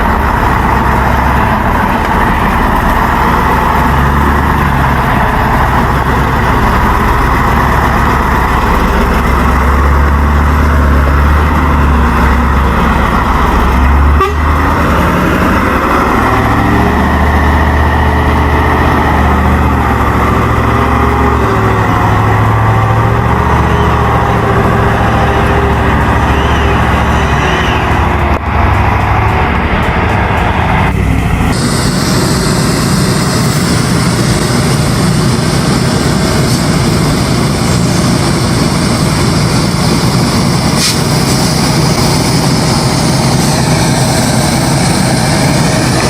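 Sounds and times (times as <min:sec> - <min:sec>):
heavy truck engine under load: 0:00.0 - 0:46.0.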